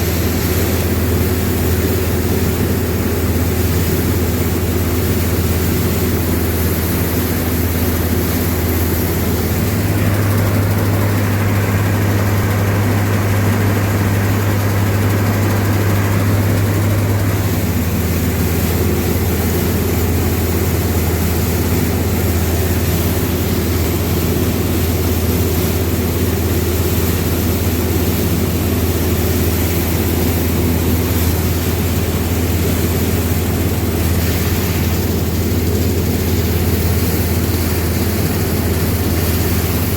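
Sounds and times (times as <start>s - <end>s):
harvesting machinery engine drone: 0.0s - 39.9s.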